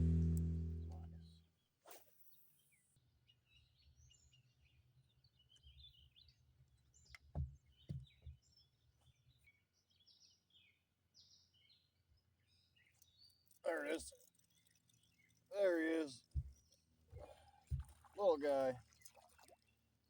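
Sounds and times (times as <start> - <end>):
faint birds chirping: 2.7 - 19.9.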